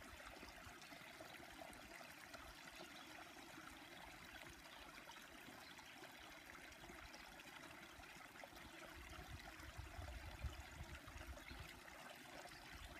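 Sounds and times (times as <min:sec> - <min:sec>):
creek water running: 0:00.0 - 0:12.9.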